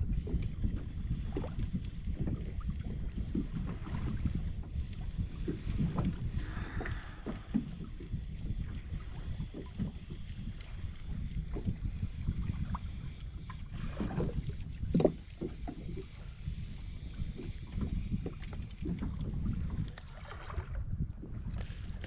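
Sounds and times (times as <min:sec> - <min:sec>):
water lapping against a kayak: 0:00.0 - 0:22.0
wind buffeting microphone: 0:00.0 - 0:22.0.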